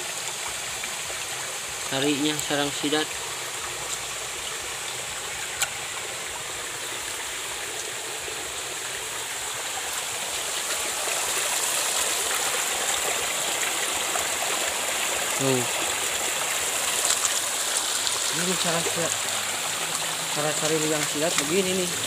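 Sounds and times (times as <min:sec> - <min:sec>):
stream water over rocks: 0:00.0 - 0:22.0.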